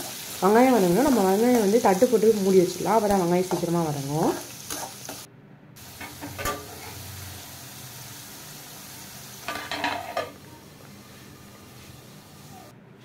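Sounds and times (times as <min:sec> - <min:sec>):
onions sizzling in oil: 0:00.0 - 0:12.7.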